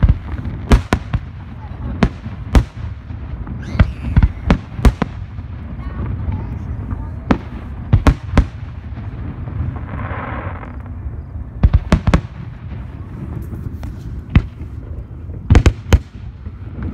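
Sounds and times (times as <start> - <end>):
fireworks bursting with bangs: 0.0 - 16.9
steady low rumble: 0.0 - 16.9.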